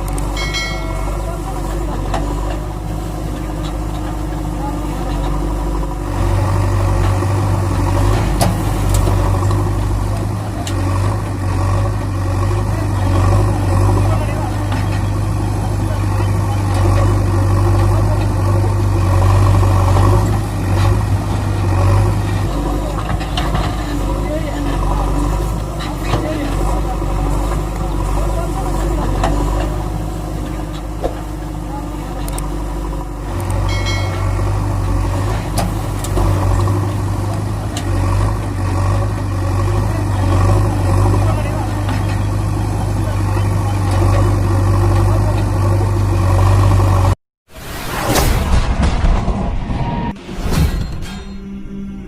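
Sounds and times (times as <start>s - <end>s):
engine idling: 0.0s - 47.2s.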